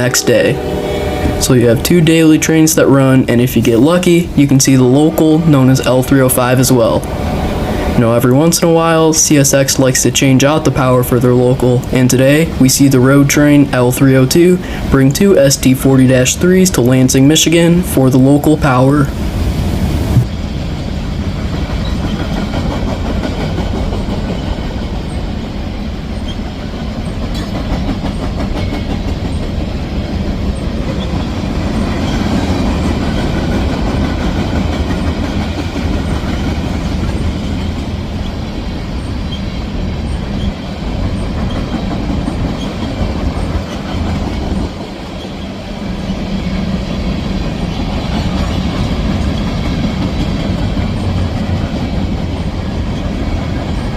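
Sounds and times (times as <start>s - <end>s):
freight train rolling past: 0.0s - 53.9s.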